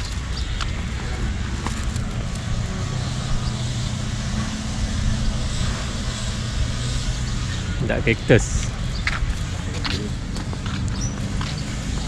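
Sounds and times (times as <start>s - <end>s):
motor vehicle running: 0.0s - 12.0s.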